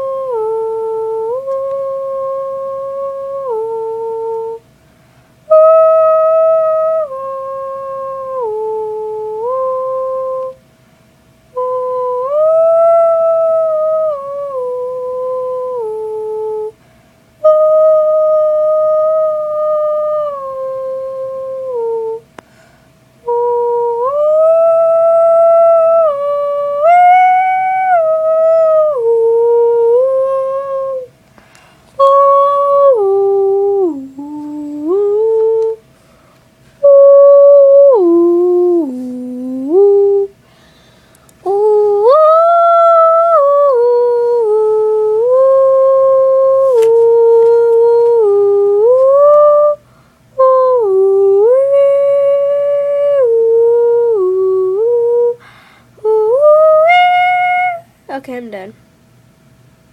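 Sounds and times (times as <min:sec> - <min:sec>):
girl humming tones: 0:00.0 - 0:04.6, 0:05.5 - 0:10.6, 0:11.5 - 0:16.8, 0:17.4 - 0:22.3, 0:23.3 - 0:31.1, 0:32.0 - 0:35.9, 0:36.8 - 0:40.4, 0:41.4 - 0:49.8, 0:50.4 - 0:58.2.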